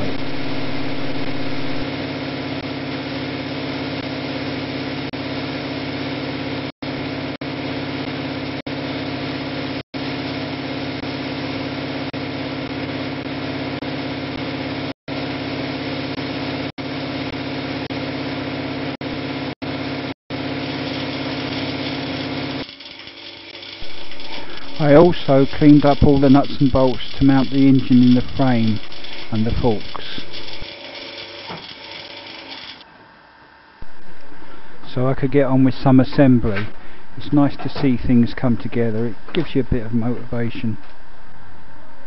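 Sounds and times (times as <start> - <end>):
motor-driven machine humming: 0.0 - 42.0.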